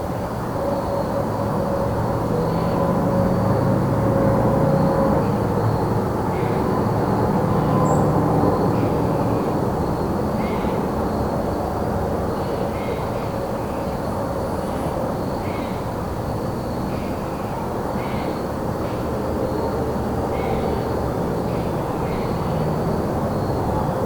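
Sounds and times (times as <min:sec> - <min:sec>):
crickets trilling: 0:01.9 - 0:24.0.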